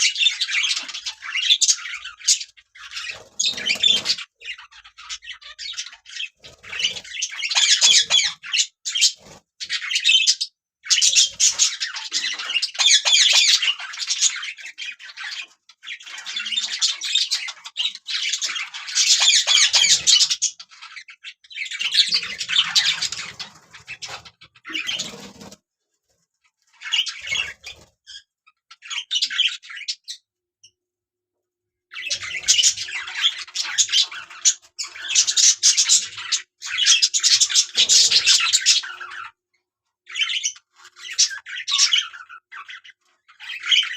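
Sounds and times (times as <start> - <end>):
budgerigars chattering: 0.0 - 25.6, 26.8 - 30.2, 31.9 - 39.4, 40.1 - 43.9.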